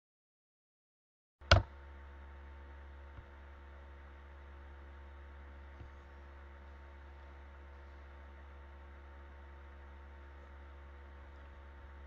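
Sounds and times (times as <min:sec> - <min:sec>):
low electrical hum: 0:01.4 - 0:12.0.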